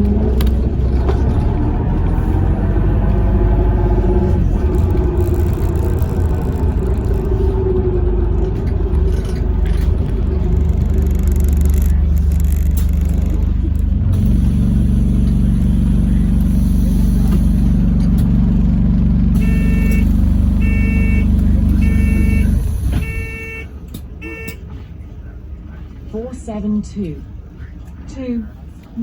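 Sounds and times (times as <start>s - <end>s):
bus drivetrain drone: 0.0s - 29.0s.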